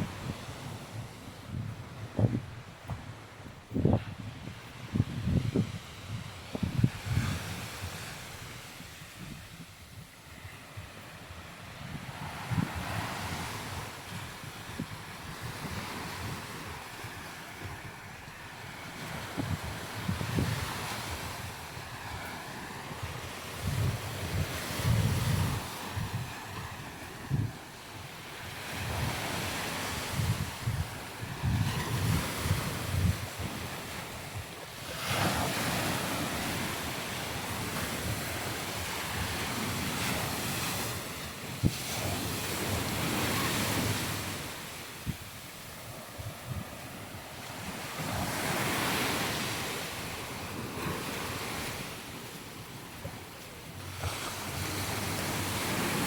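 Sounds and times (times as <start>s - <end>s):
sea waves on sandy beach: 0.0s - 56.0s
wind buffeting microphone: 0.0s - 56.0s.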